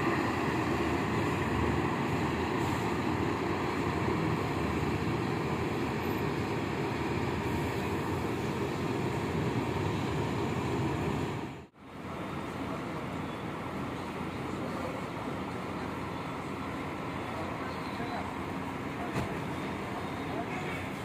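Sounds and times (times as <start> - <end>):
diesel coach engine rumbling: 0.0 - 21.0.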